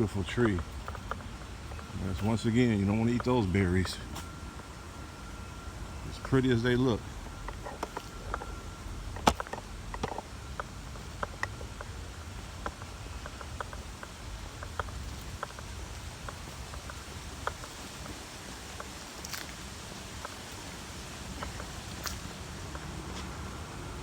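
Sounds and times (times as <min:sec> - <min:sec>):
footsteps on a trail: 0:00.0 - 0:24.0
low steady rumble: 0:00.0 - 0:24.0.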